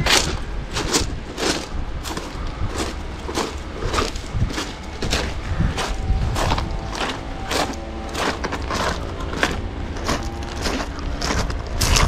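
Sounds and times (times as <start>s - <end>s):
footsteps on pebble beach: 0.0s - 12.0s.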